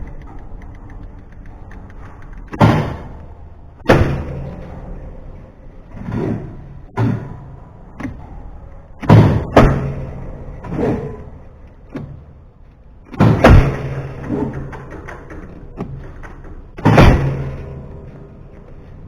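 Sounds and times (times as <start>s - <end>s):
heavy thumps and bangs: 1.8s - 19.0s.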